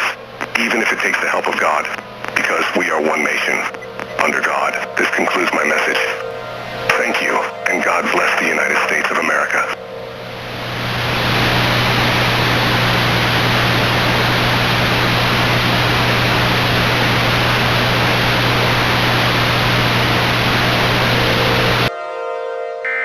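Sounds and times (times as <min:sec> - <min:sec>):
low electrical hum: 0:00.0 - 0:21.9
static hiss: 0:00.0 - 0:21.9.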